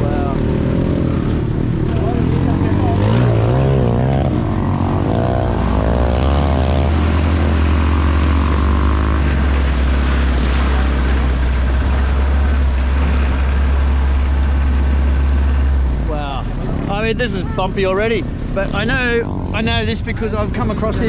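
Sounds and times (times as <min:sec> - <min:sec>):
vehicle engine and ride noise: 0:00.0 - 0:21.0.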